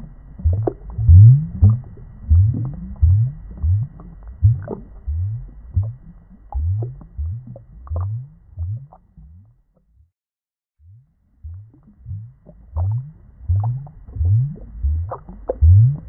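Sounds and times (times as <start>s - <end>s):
aquarium water bubbling: 0.0s - 9.8s, 10.8s - 16.0s.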